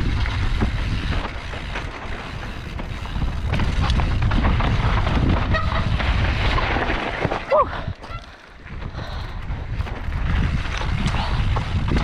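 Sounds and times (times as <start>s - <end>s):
wind rushing over microphone: 0.0s - 7.0s, 7.6s - 12.0s
bike clattering and knocking: 0.0s - 12.0s
tyres rumbling on trail: 0.0s - 12.0s.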